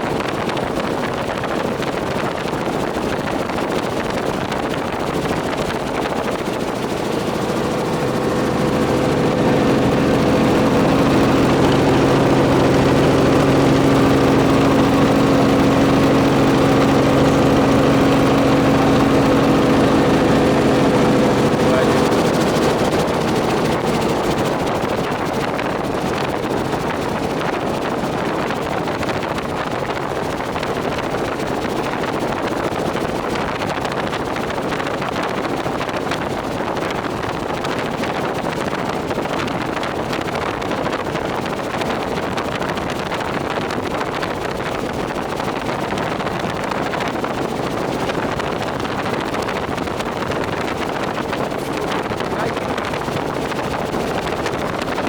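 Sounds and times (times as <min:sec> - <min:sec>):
helicopter engine and rotor: 0:00.0 - 0:55.0
wind rushing over microphone: 0:00.0 - 0:55.0.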